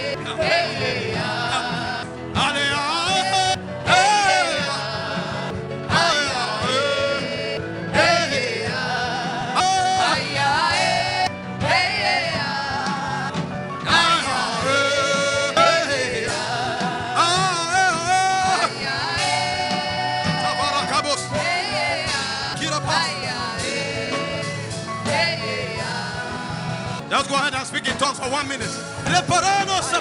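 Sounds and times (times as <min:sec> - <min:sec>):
instrumental backing: 0:00.0 - 0:29.0.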